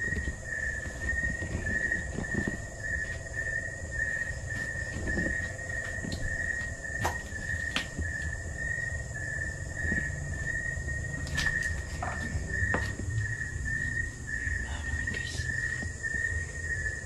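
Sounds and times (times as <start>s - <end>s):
insects trilling: 0.0s - 17.0s
low rumble: 0.0s - 17.0s.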